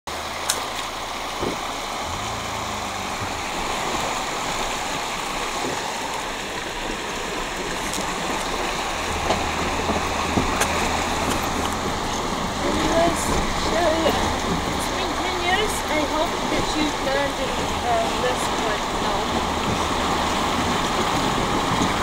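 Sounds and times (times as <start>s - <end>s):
low engine hum: 0.1s - 22.0s
water rushing against car: 0.1s - 22.0s.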